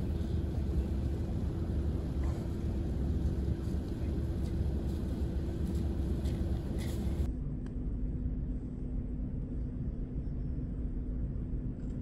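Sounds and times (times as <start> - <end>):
engine rumbling: 0.0 - 10.0
constant hum: 0.0 - 12.0.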